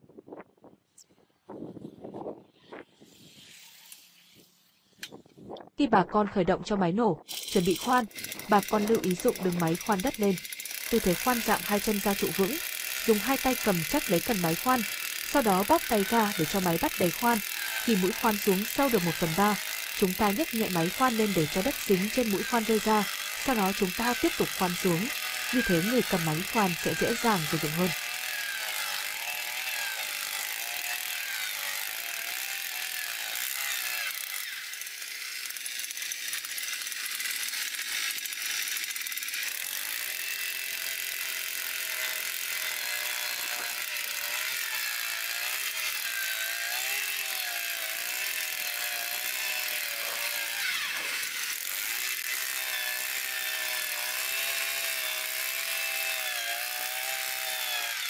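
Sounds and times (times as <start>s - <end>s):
auger bit boring into soil: 3.0s - 5.2s, 7.2s - 58.0s
two-stroke auger engine: 7.3s - 58.0s.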